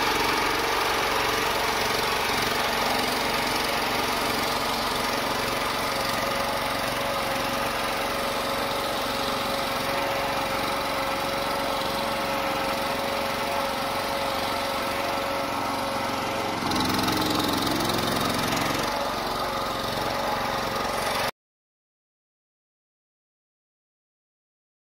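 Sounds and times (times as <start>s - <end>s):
small loader engine running: 0.0s - 21.3s.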